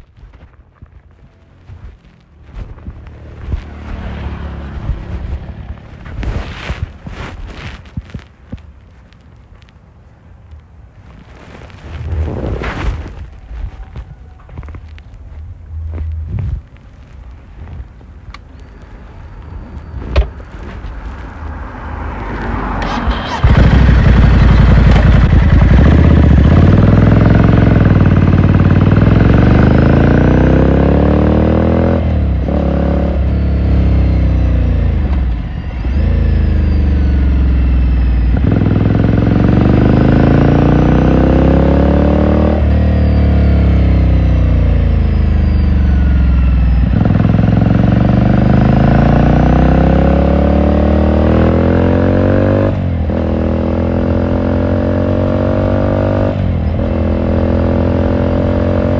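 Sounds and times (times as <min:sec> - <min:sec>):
motorcycle engine revving: 0:01.4 - 0:08.2, 0:11.6 - 0:13.3, 0:19.3 - 0:58.9.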